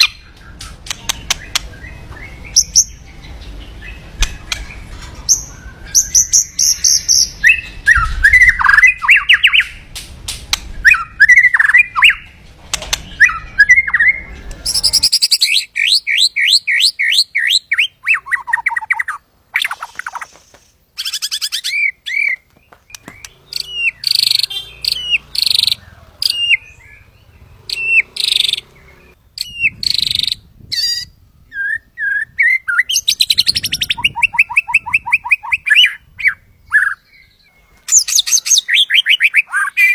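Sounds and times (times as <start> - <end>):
songbird singing trills and whistles: 0.0 - 10.0, 10.6 - 20.4, 21.0 - 39.9.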